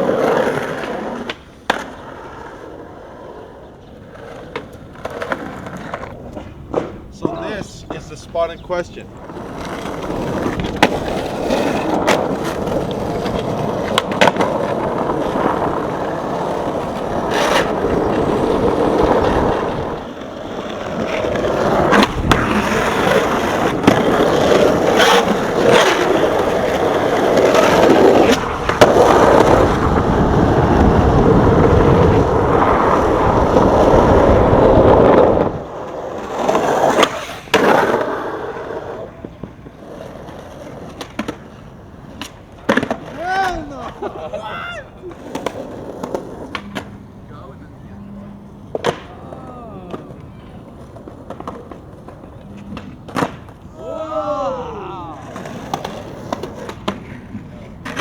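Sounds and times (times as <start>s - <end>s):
skateboard tail popping and landing: 0.0s - 3.4s, 4.1s - 7.4s, 9.2s - 47.1s, 48.6s - 53.8s, 55.2s - 58.0s
skateboard wheels rolling on pavement: 0.0s - 58.0s.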